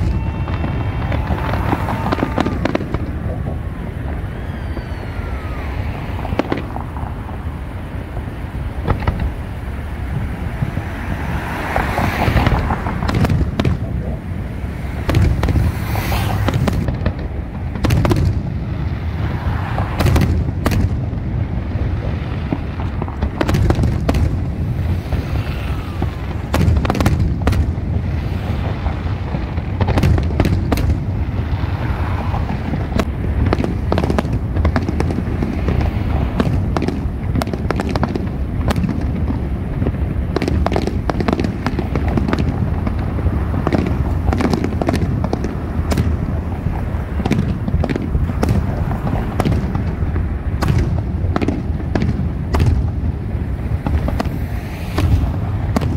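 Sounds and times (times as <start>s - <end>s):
constant low rumble: 0.0s - 55.9s
fireworks booming and cracking: 0.0s - 55.9s.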